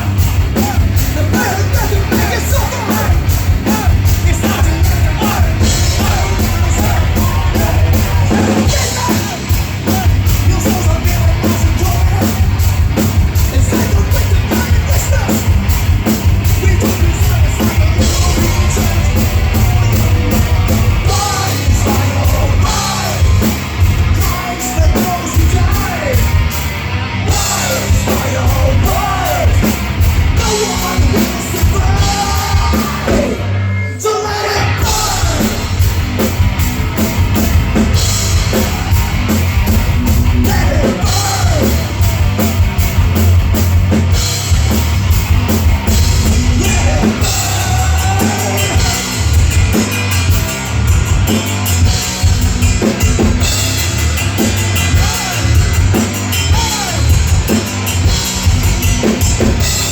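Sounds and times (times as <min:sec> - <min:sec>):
lead vocals singing: 0:00.0 - 0:42.6, 0:45.6 - 0:50.4, 0:54.3 - 0:59.9
live rock band playing: 0:00.0 - 0:59.9.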